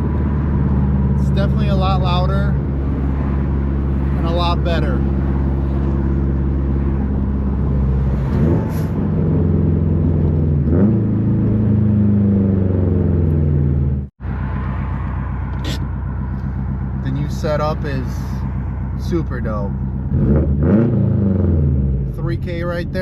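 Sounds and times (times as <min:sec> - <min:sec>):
car engine driving: 0:00.0 - 0:23.0.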